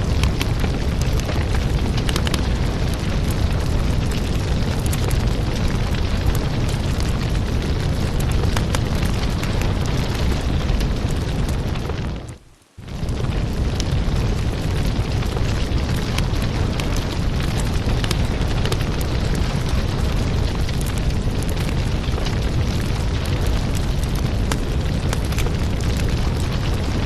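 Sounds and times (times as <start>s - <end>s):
firewood burning and crackling: 0.0s - 27.0s.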